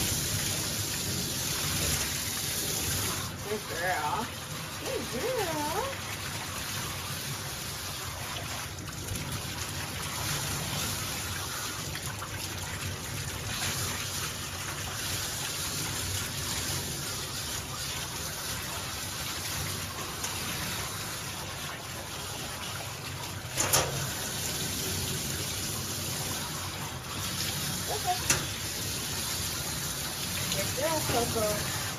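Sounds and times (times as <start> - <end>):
water spraying from hose: 0.0 - 31.9.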